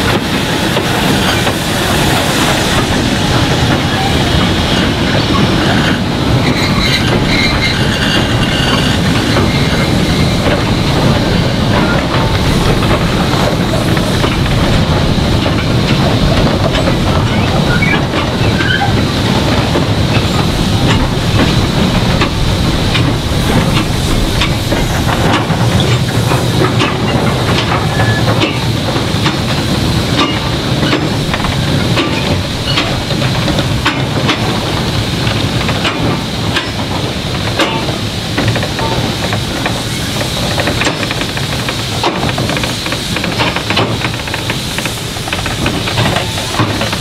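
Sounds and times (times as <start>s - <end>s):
steam hissing: 0.0s - 47.0s
wagon wheels clicking over rail joints: 6.3s - 47.0s.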